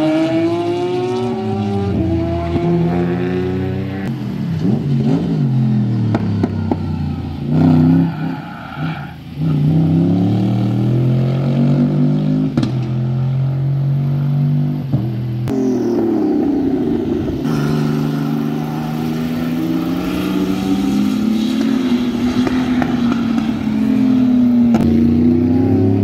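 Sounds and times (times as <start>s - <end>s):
car engine revving hard: 0.0s - 6.8s, 9.4s - 26.0s.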